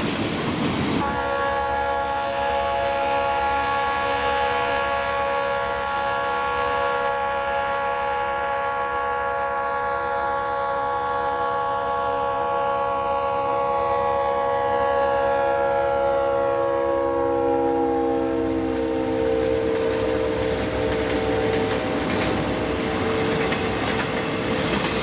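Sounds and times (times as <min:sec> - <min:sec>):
low rumble of train: 0:00.0 - 0:25.0
locomotive air horn chord: 0:01.0 - 0:24.4.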